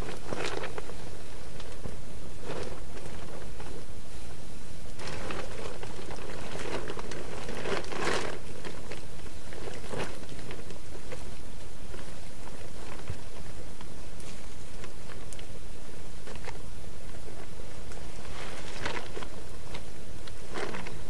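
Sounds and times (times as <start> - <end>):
foil blanket crinkling: 0.0 - 21.0
low background noise: 0.0 - 21.0.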